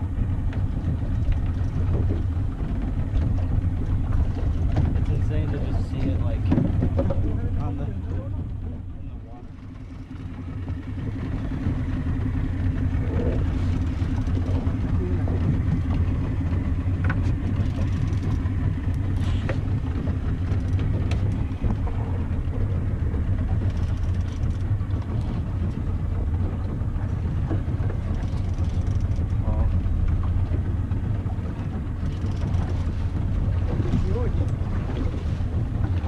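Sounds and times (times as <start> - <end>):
boat motor idling: 0.0 - 36.0.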